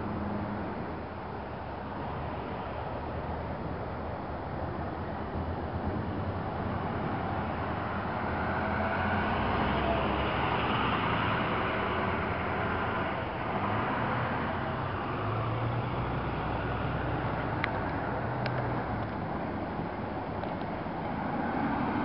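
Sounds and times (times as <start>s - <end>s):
fire truck driving past: 0.0s - 22.0s.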